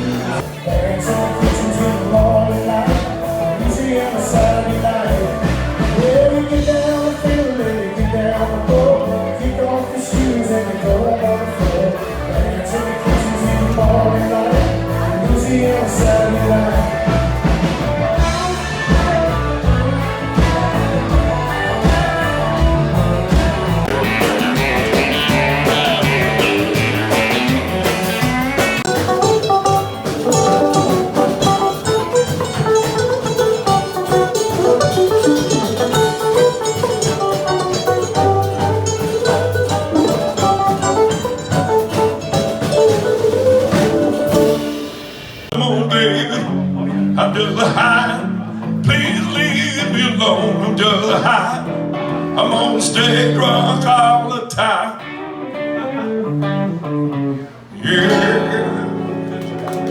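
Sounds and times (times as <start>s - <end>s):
bass: 0.0s - 59.9s
drums: 0.0s - 59.9s
lead guitar: 0.0s - 59.9s.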